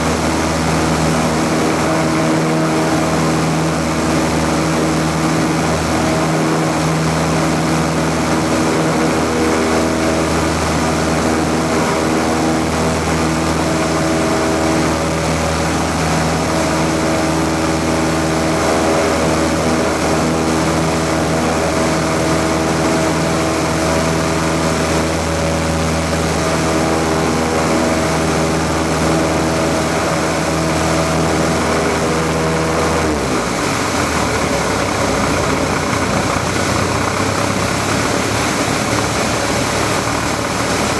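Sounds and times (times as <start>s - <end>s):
aircraft engine and propeller drone: 0.0s - 40.9s
airflow rushing: 0.0s - 40.9s.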